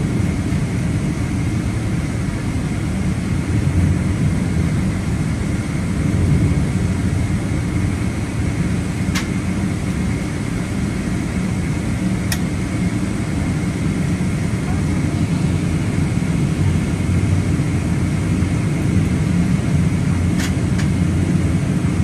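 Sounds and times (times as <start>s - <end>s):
jet engines low rumble: 0.0s - 22.0s.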